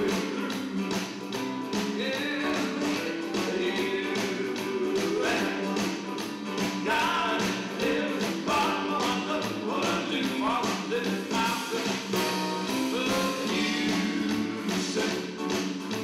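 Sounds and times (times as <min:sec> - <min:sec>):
person singing: 0:00.0 - 0:01.1, 0:01.8 - 0:16.0
acoustic-electric guitar: 0:00.0 - 0:16.0
electric bass: 0:00.0 - 0:16.0.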